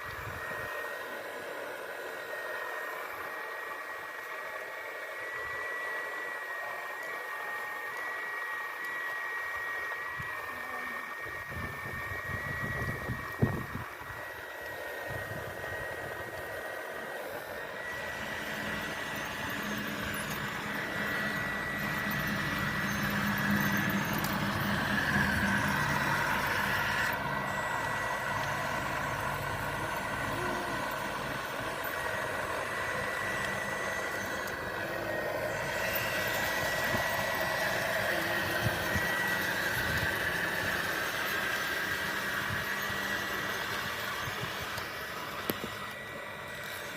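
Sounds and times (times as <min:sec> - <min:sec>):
small electric motors whirring: 0:00.0 - 0:46.9.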